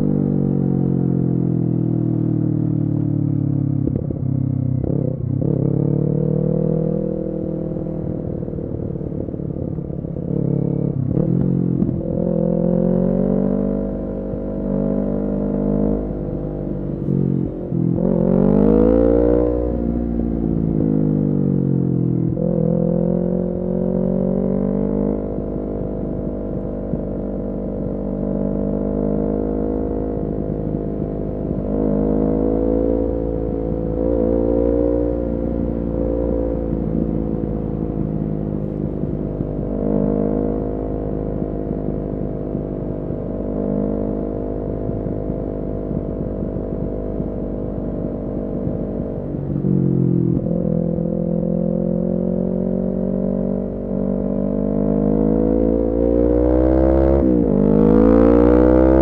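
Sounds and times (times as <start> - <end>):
motorcycle engine revving: 3.4 - 59.0.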